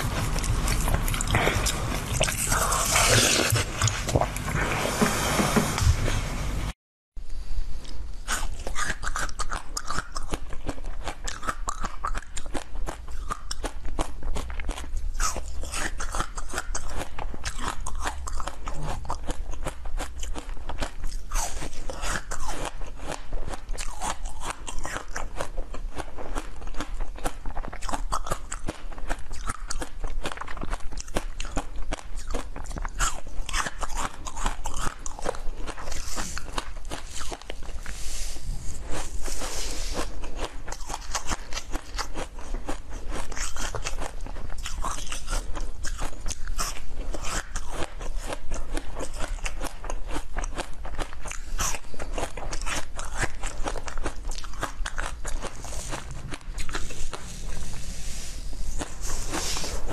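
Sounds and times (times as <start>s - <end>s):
person chewing crunchy food: 0.0s - 6.2s, 7.8s - 59.9s.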